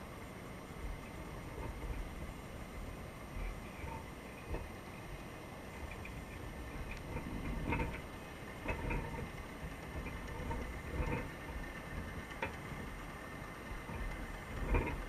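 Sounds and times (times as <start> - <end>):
muffled underwater rumble: 0.7 - 15.0.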